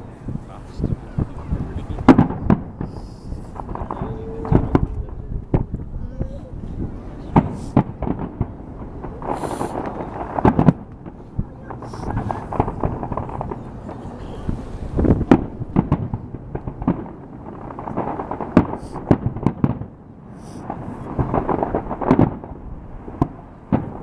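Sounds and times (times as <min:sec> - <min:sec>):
distant fireworks rumble: 0:00.0 - 0:24.0
firecrackers banging and crackling: 0:00.0 - 0:24.0.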